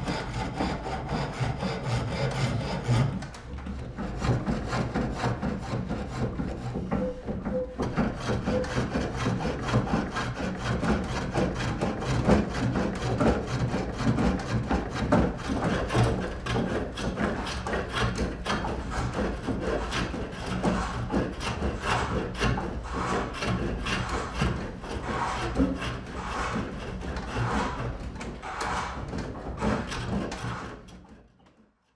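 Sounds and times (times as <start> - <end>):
chisel shaving spinning wood: 0.0 - 30.9.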